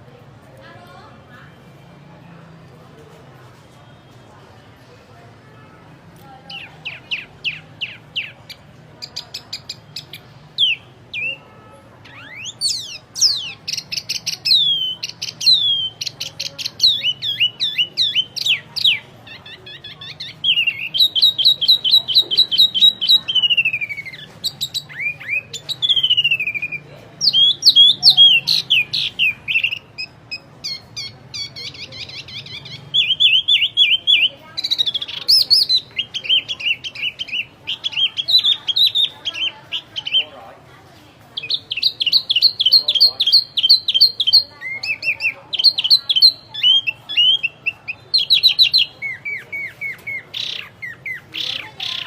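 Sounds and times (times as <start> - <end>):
bird singing with trills: 6.4 - 40.4, 41.4 - 52.0.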